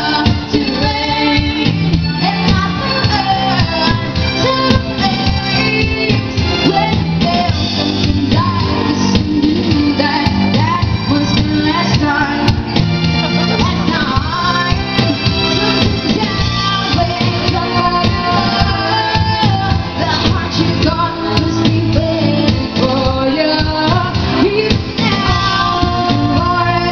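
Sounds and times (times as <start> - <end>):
backing music: 0.0 - 26.9
electric guitar: 0.0 - 26.9
woman singing pop ballad: 0.0 - 26.9.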